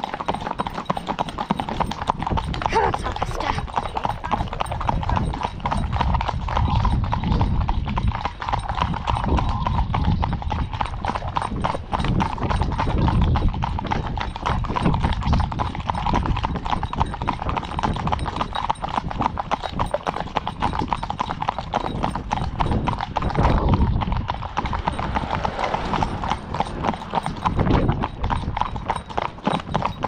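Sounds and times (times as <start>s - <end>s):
horse hooves on wet road: 0.0s - 30.0s.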